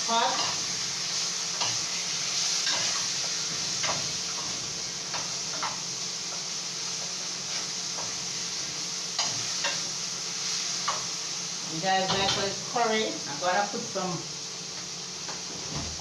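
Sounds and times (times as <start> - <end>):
chicken frying in hot oil: 0.0 - 15.5.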